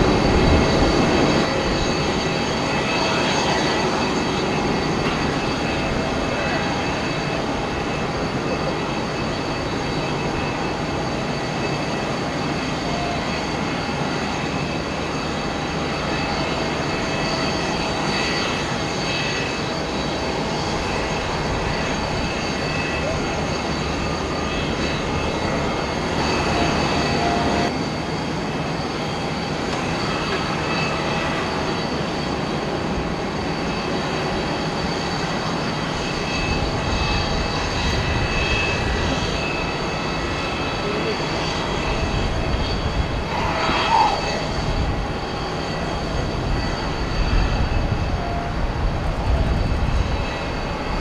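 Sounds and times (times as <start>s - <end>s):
jet engines running: 0.0s - 51.0s.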